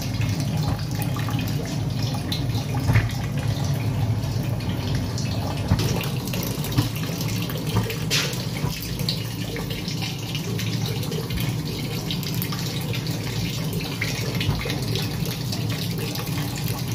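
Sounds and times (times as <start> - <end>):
tap water running: 0.0 - 16.9.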